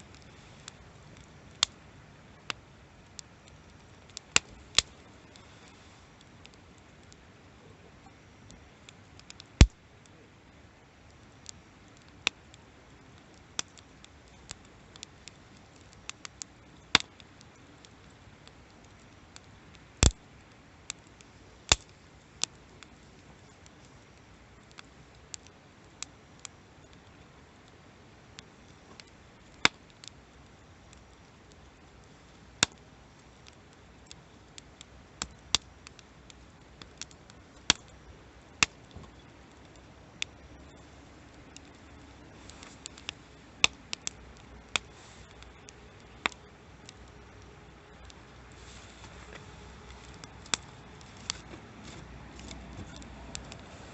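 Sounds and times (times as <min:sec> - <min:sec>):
campfire crackling and popping: 0:00.0 - 0:53.9
low fire hiss: 0:00.0 - 0:53.9.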